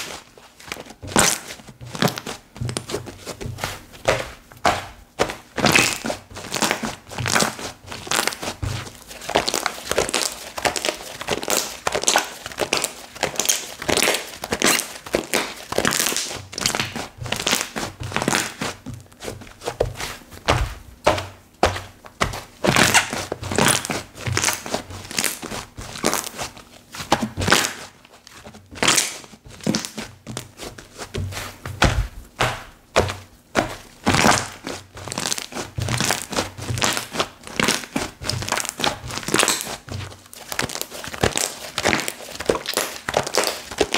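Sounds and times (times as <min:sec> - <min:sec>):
slime crackling and popping: 0:01.0 - 0:02.9, 0:04.0 - 0:18.8, 0:21.8 - 0:30.6, 0:33.6 - 0:43.9.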